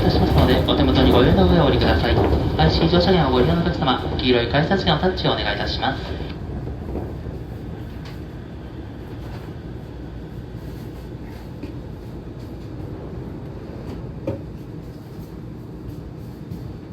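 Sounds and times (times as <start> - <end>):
monorail cabin rumble: 0.0 - 16.9.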